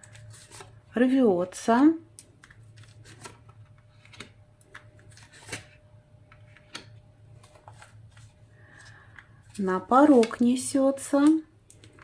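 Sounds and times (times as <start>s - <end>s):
cards rustling and clicking: 0.0s - 0.8s, 2.1s - 12.0s.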